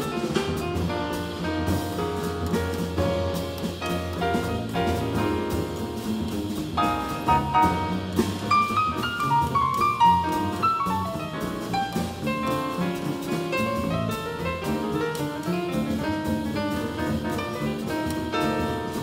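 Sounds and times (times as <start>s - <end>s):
double bass: 0.0s - 19.0s
drum kit with cymbals: 0.0s - 19.0s
grand piano: 0.0s - 19.0s.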